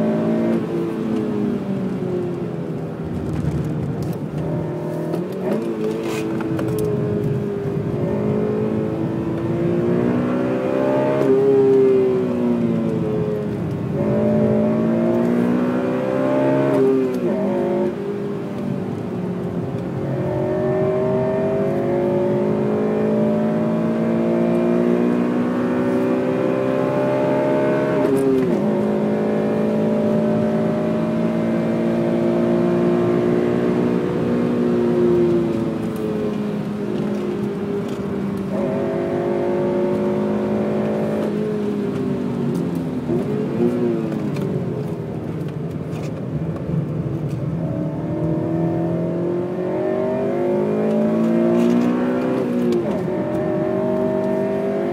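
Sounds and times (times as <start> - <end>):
car engine revving through gears: 0.0 - 54.9.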